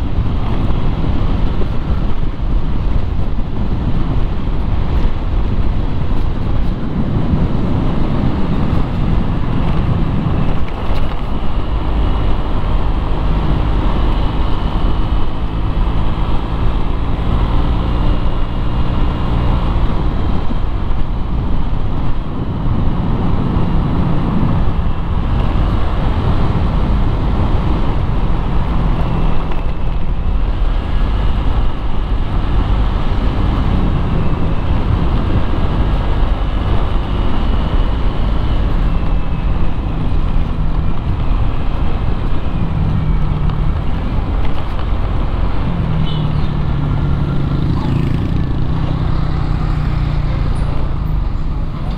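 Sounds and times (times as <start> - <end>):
motorcycle engine: 0.0 - 51.9
road traffic noise: 0.0 - 51.9
wind rumble on microphone: 0.0 - 51.9.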